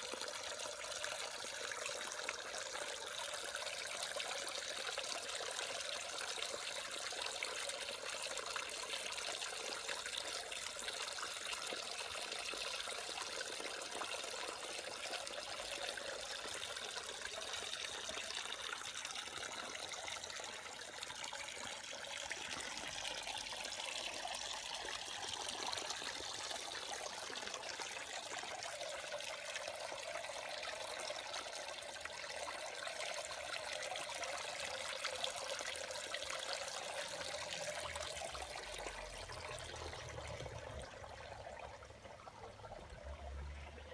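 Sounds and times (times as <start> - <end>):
waterfall splashing into pond: 0.0 - 43.9.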